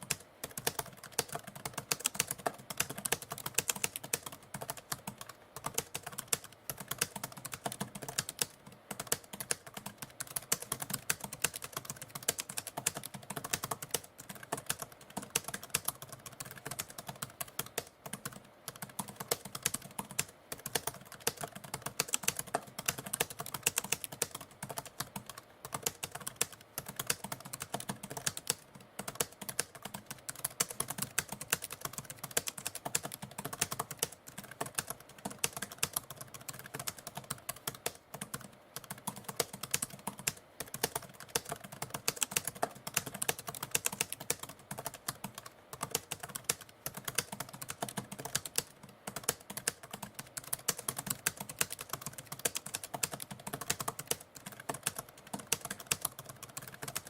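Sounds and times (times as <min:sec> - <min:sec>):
typewriter keys clacking: 0:05.6 - 0:57.0.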